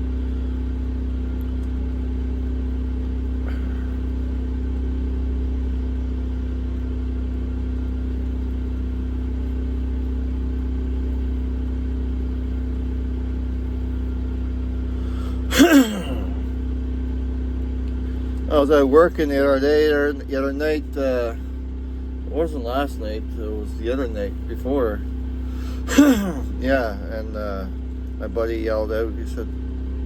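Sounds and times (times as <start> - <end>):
generator humming: 0.0 - 30.0.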